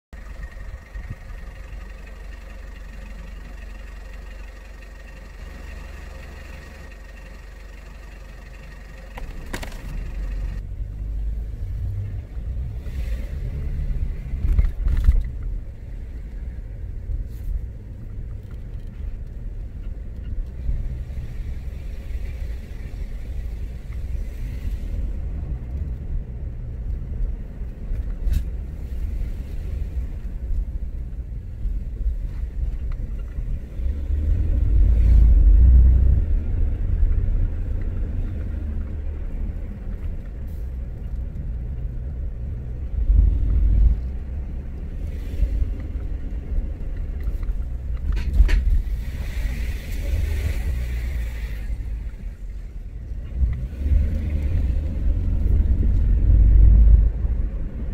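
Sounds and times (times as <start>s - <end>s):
car engine rumble: 0.0s - 57.9s
road noise: 0.0s - 57.9s.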